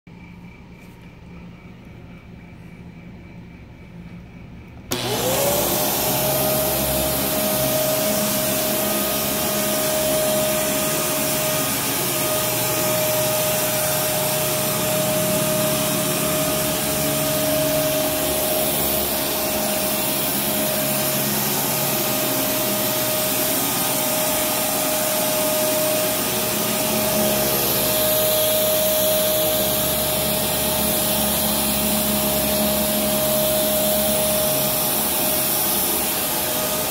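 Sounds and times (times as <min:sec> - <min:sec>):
vacuum cleaner motor whine: 0:04.0 - 0:36.9.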